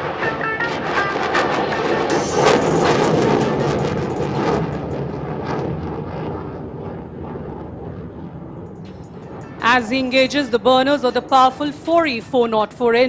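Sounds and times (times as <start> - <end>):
jet engine rushing and crackling: 0.0 - 12.4.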